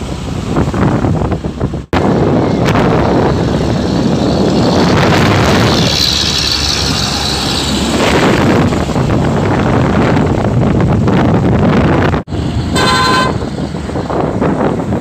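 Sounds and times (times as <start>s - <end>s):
heavy trucks driving past: 0.0s - 15.0s
wind on microphone: 0.0s - 15.0s.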